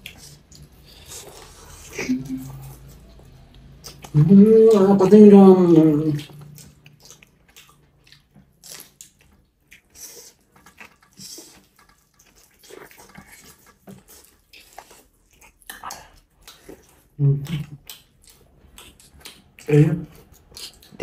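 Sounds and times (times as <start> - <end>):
chewing with wet smacks: 0.0 - 21.0.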